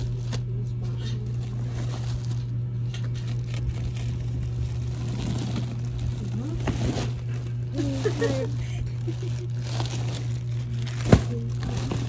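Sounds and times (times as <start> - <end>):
clothes and packaging rustling: 0.0 - 12.0
low hum: 0.0 - 12.0.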